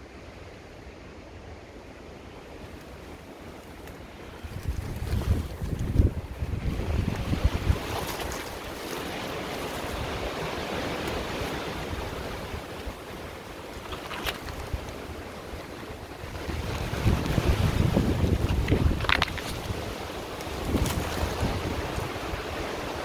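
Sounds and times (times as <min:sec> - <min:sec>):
branches and leaves rustling: 0:01.3 - 0:23.0
wind on microphone: 0:04.3 - 0:23.0.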